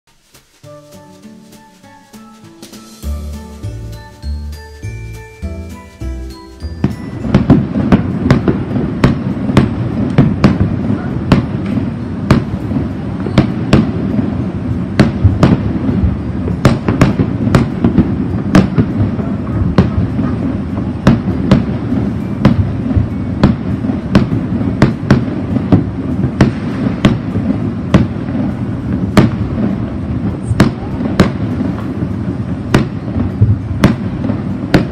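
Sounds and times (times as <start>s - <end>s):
firework cracks and pops: 0.1s - 4.3s, 5.8s - 34.9s
rumble of distant fireworks: 0.1s - 34.9s.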